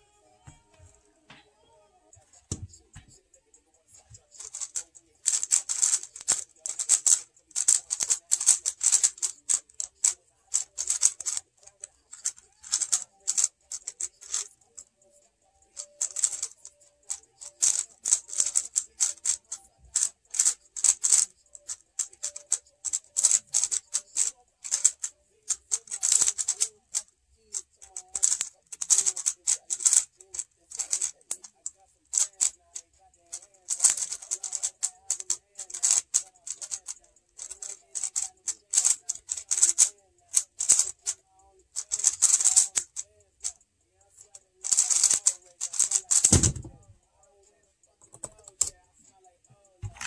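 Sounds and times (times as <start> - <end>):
puzzle cube clicking turns: 4.0 - 43.6, 44.2 - 46.9, 48.0 - 48.8.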